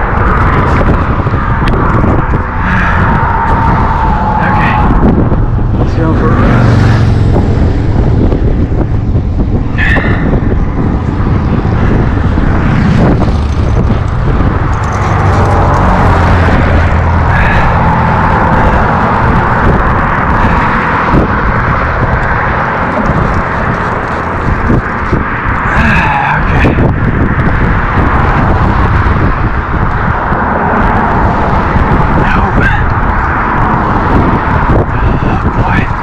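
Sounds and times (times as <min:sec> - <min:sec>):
cars and tyres passing: 0:00.0 - 0:36.0
heavy low rumble: 0:00.0 - 0:36.0.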